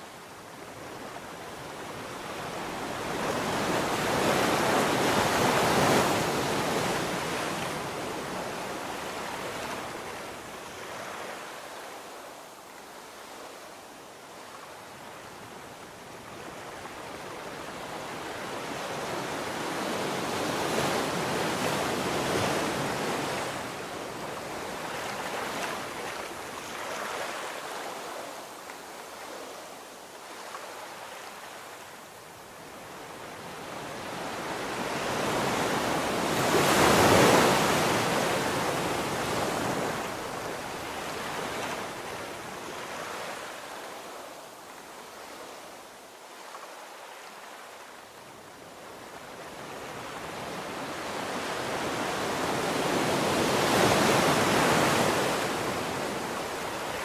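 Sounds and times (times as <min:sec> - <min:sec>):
ocean surf breaking on beach: 0:00.0 - 0:12.4, 0:14.7 - 0:57.0.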